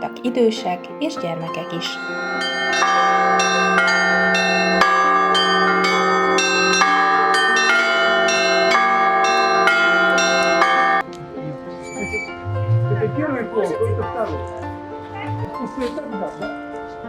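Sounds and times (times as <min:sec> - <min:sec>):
church bells pealing: 0:01.0 - 0:16.7.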